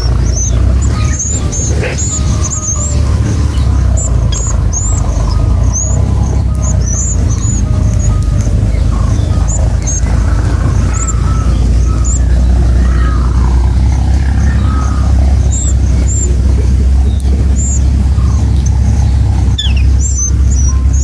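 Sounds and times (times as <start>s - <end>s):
high bird chirps: 0.0s - 21.0s
loud low rumble: 0.0s - 21.0s.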